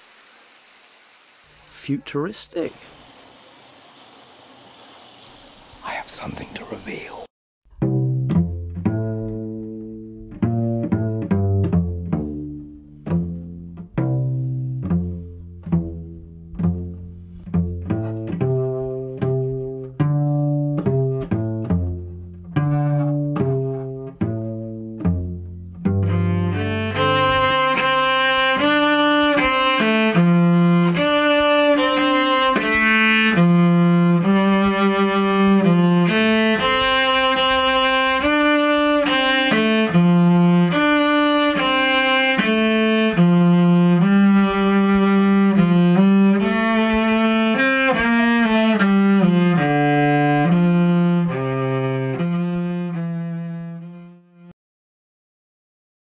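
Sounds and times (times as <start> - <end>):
slow bowed string melody: 7.7 - 54.5.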